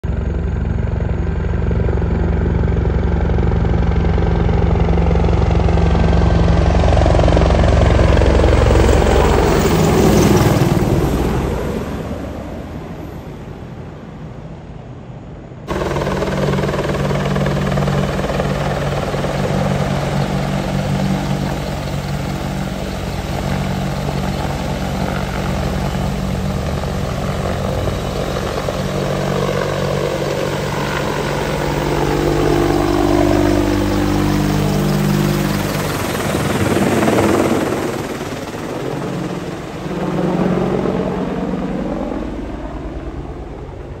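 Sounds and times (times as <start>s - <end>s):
helicopter rotor beat: 0.0s - 13.4s, 15.7s - 44.0s
turbine engine whine: 0.0s - 44.0s.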